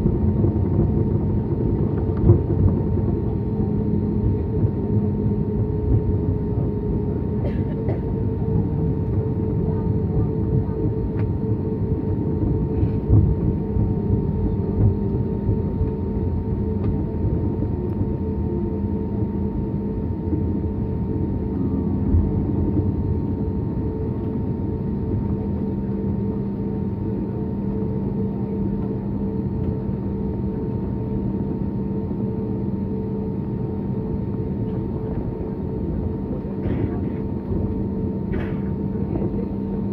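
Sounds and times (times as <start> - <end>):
jet engines humming: 0.0 - 39.9.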